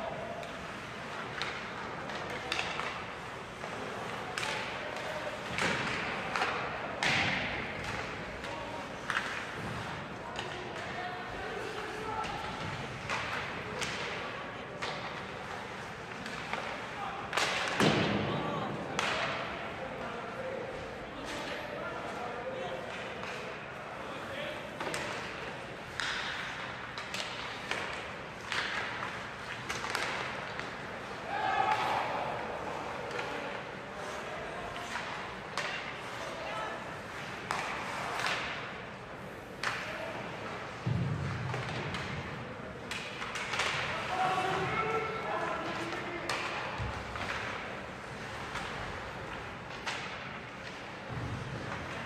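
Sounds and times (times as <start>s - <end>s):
sticks and puck clacking: 0.0s - 52.0s
thuds echoing around rink: 0.0s - 52.0s.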